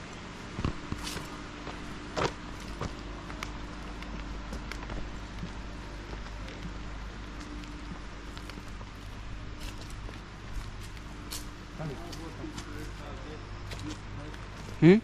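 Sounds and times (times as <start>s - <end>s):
steady low hum: 0.0s - 15.0s
footsteps: 0.5s - 14.8s.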